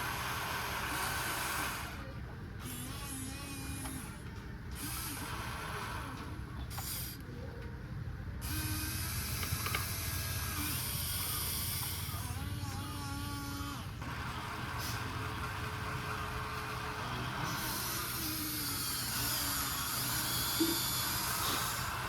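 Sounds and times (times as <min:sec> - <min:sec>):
toy gear motors whirring: 0:00.0 - 0:07.3, 0:08.4 - 0:14.1, 0:14.7 - 0:22.0.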